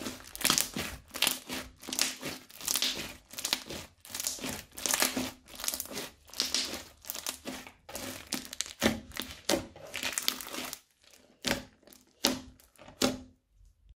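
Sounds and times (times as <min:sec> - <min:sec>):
crunchy slime squishing: 0:00.0 - 0:13.9.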